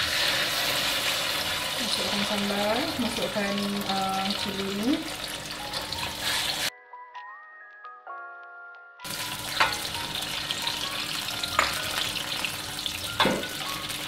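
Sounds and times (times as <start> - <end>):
chilli paste sizzling in oil: 0.0 - 6.7, 9.1 - 14.0
music: 1.6 - 14.0.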